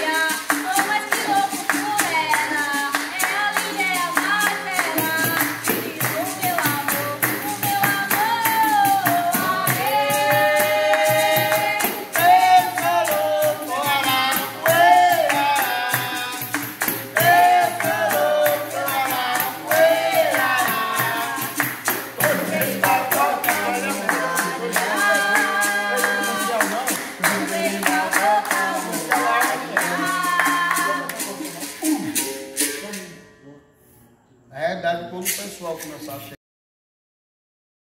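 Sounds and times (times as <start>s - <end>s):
hand clapping: 0.0s - 32.9s
voices singing together: 0.0s - 33.6s.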